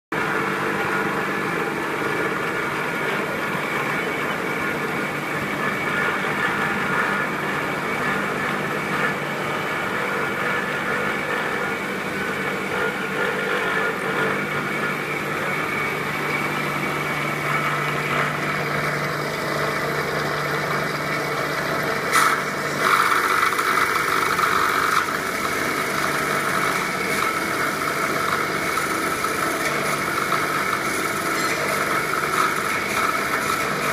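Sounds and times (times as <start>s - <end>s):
wood lathe humming: 0.2s - 33.9s.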